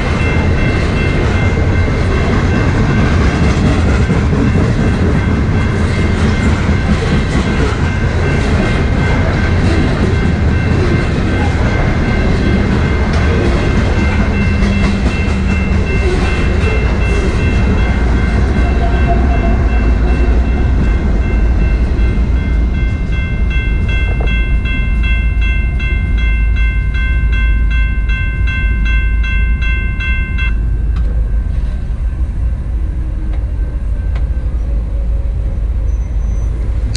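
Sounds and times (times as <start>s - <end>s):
train rumbling on rails: 0.0s - 36.9s.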